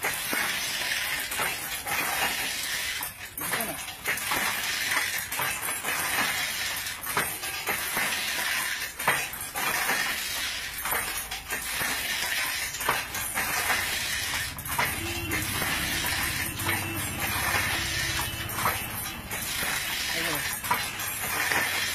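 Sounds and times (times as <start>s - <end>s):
wooden loom knocks and clacks: 0.0s - 21.9s.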